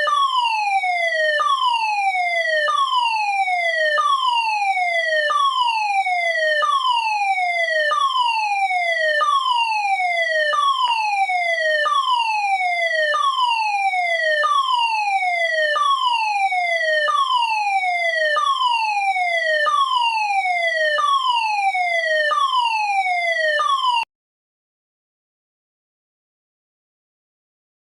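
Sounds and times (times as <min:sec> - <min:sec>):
fire alarm falling tone: 0:00.0 - 0:24.1.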